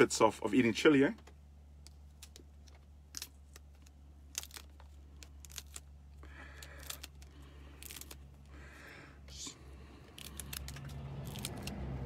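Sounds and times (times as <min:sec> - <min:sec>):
low hum: 0:01.2 - 0:12.0.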